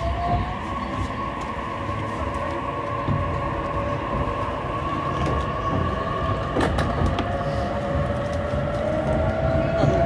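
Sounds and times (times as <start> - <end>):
wheels rumbling on rails: 0.0 - 10.0.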